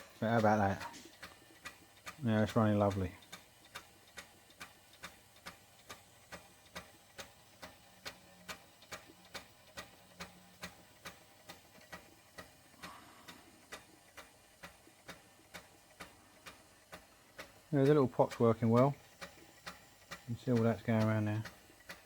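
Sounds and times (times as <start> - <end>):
steam engine ticking: 0.0 - 22.0.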